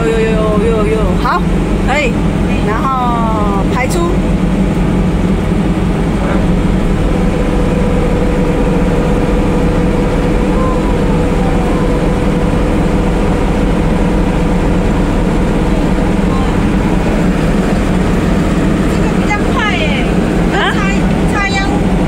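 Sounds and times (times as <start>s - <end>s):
harvester engine running: 0.0s - 22.0s
steady machine whine: 0.0s - 22.0s.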